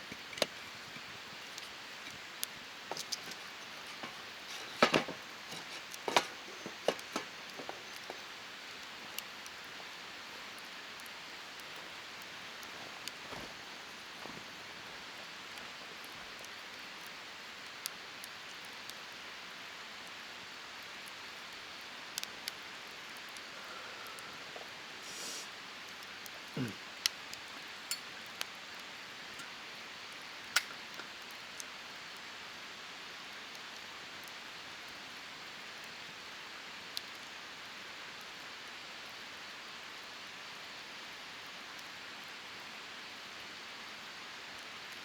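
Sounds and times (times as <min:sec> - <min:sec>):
fire crackles and pops: 0:00.0 - 0:45.0
wood fire hissing: 0:00.0 - 0:45.0.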